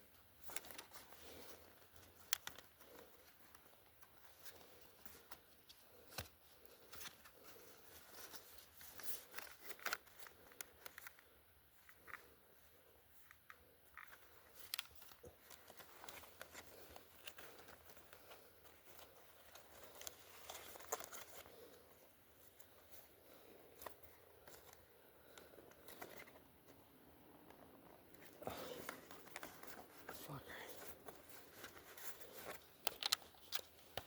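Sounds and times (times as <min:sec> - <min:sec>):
faint rustling: 0:00.0 - 0:34.0.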